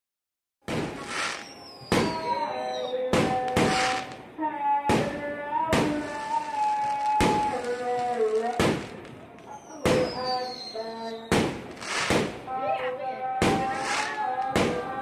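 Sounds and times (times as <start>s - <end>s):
fireworks bangs: 0.6s - 15.0s.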